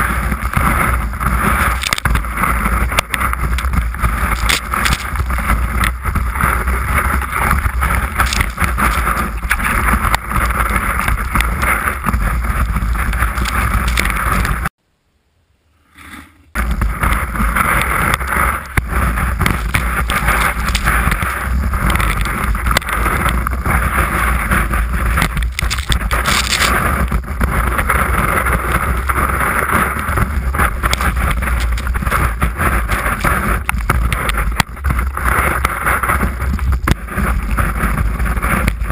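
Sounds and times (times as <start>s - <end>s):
skis scraping on snow: 0.0s - 14.7s, 16.6s - 38.9s
wind rushing over microphone: 0.0s - 14.7s, 16.0s - 38.9s.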